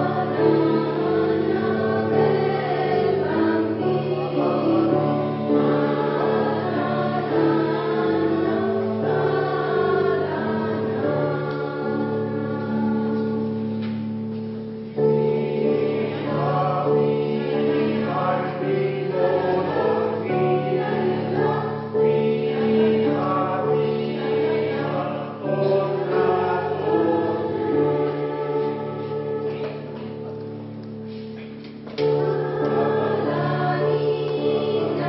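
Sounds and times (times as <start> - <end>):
choir singing held chords: 0.0 - 35.0.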